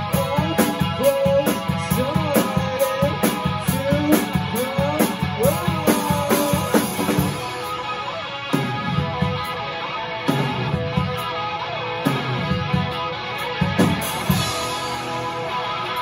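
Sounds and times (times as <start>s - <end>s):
drum kit: 0.0s - 16.0s
electric guitar through an amp: 0.0s - 16.0s.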